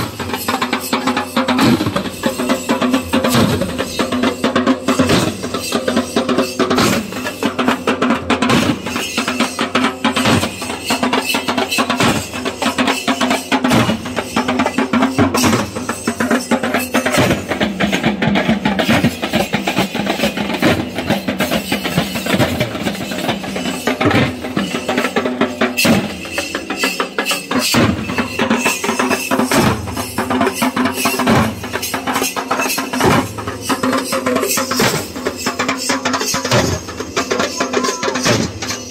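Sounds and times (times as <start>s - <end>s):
drums beaten in fast rhythm: 0.0s - 38.9s.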